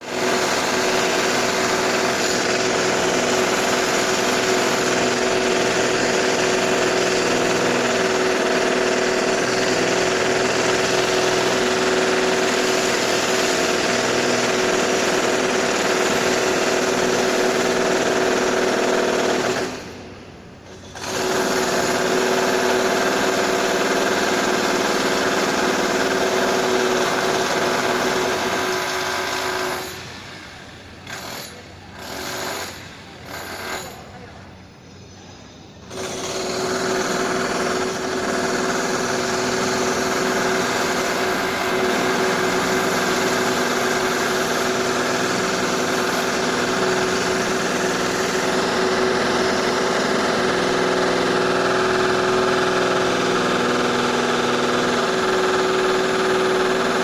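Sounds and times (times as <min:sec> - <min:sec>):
power drill whining: 0:00.0 - 0:20.0, 0:20.6 - 0:34.2, 0:35.8 - 0:57.0.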